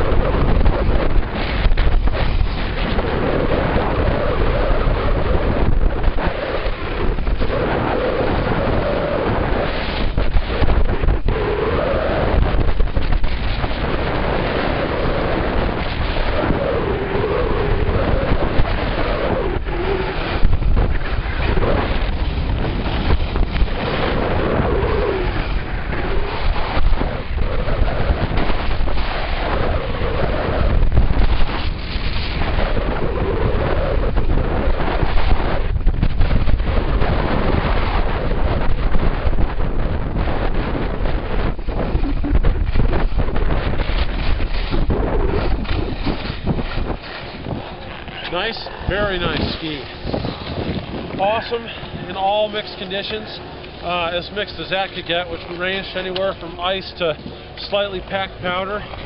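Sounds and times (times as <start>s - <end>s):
wind buffeting the microphone: 0.0s - 59.0s
skis scraping on hard snow: 0.1s - 16.7s, 18.3s - 39.6s, 40.2s - 59.0s.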